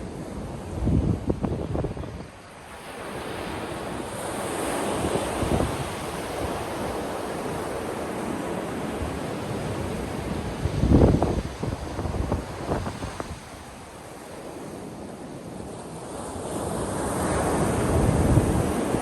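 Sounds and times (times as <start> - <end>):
wind rumble on microphone: 0.0 - 19.0
sea waves breaking on beach: 2.3 - 19.0.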